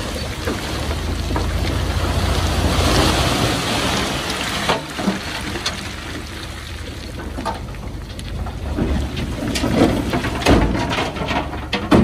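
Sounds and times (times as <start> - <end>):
bulldozer rumbling: 0.0 - 12.0.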